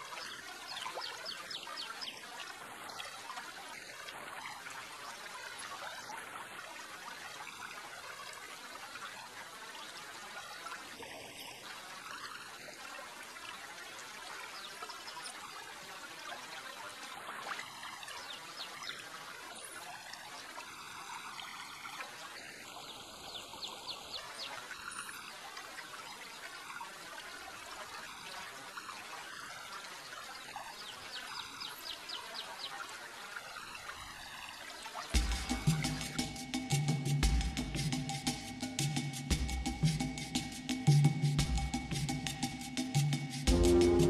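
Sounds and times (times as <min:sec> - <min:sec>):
creek water trickling: 0:00.0 - 0:44.0.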